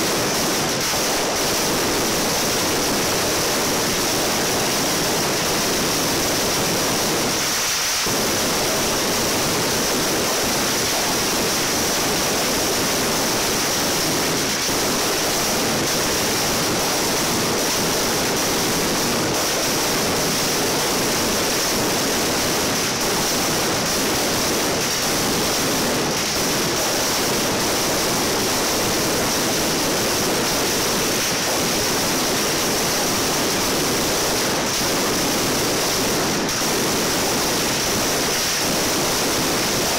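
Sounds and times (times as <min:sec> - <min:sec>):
firecrackers barrage: 0:00.0 - 0:39.9.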